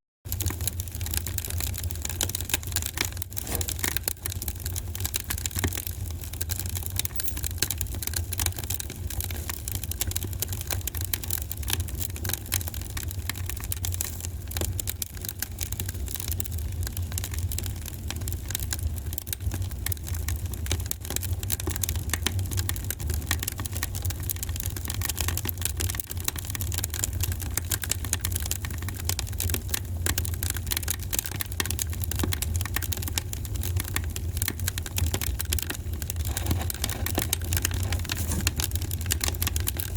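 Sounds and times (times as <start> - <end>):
fire crackles and pops: 0.3 - 39.9
low rumble of fire: 0.3 - 39.9.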